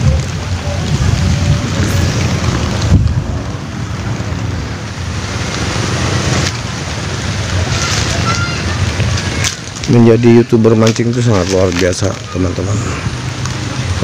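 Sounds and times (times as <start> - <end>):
rain falling on lake: 0.0 - 14.0
wind buffeting microphone: 0.0 - 14.0.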